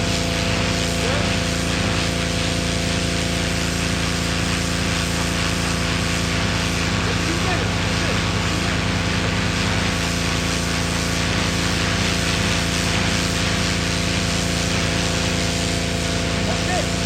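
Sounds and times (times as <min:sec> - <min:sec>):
pressure washer spraying concrete: 0:00.0 - 0:17.0.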